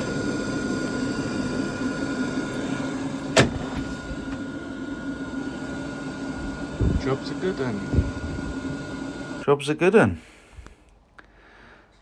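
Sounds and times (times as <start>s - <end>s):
gas boiler humming: 0.0s - 12.0s.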